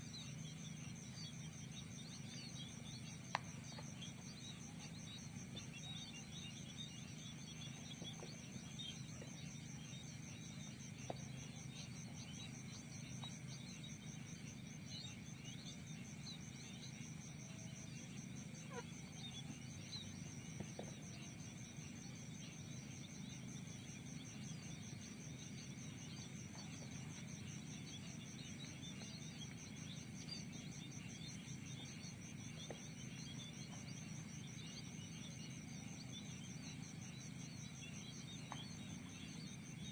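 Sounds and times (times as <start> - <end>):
crickets trilling: 0.0 - 39.9
faint bird chirps: 0.0 - 39.9.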